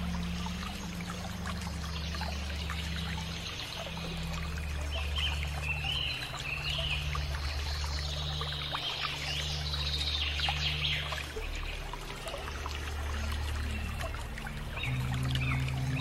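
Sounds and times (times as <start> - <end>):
birds warbling whistles: 0.0 - 16.0
steady low hum: 0.0 - 16.0.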